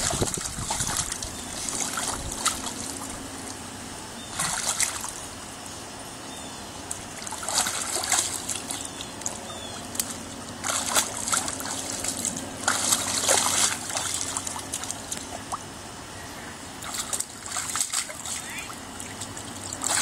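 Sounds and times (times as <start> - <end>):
water splashing in pool: 0.0 - 5.3, 6.8 - 15.8, 16.6 - 20.0
hose water trickling: 0.0 - 6.0, 6.7 - 20.0.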